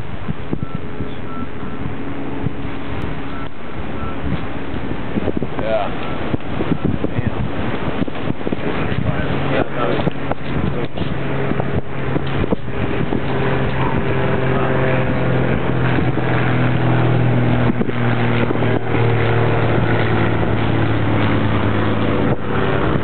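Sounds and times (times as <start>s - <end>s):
continuous rushing noise: 0.0s - 23.0s
steady motor hum: 0.0s - 23.0s.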